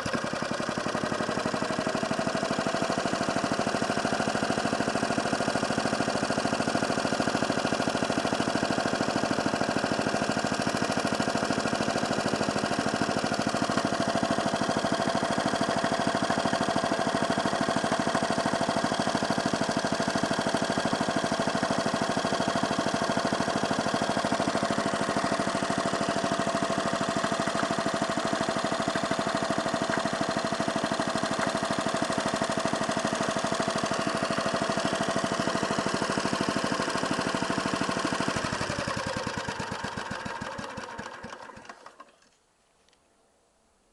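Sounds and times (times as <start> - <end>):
lawn mower engine running: 0.0 - 42.4.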